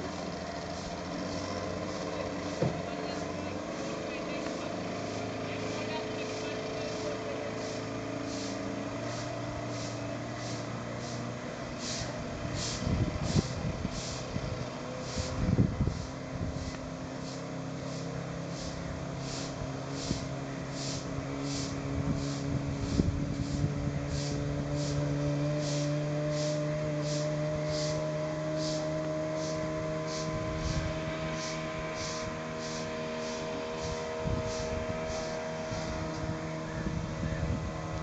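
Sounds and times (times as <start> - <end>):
engine running: 0.0 - 38.0
high pulsing: 0.0 - 38.0.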